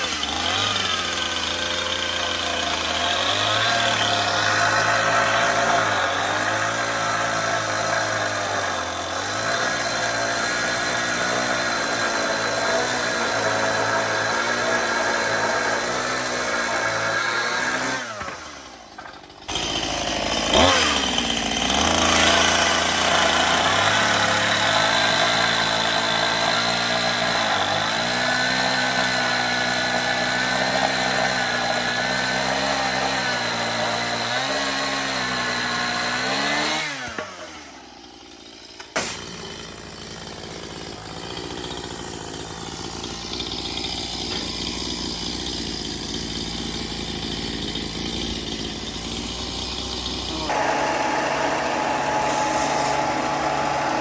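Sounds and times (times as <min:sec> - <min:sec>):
electric power saw cutting boards: 0:00.0 - 0:54.0.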